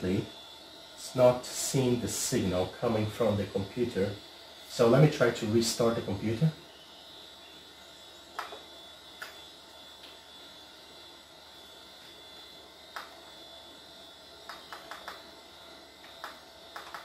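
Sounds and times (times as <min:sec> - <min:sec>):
steady hum with high whine: 0:00.0 - 0:17.0.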